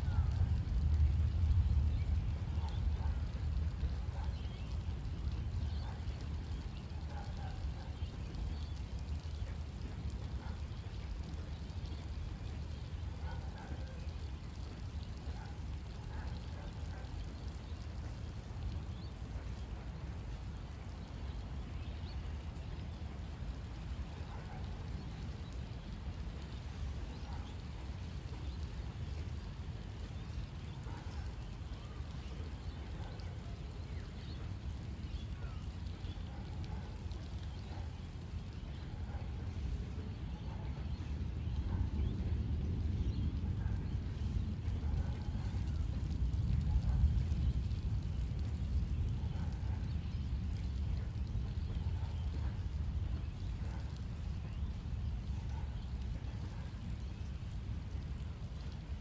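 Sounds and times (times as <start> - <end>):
constant low rumble: 0.0 - 59.0
steady rain falling: 0.0 - 59.0.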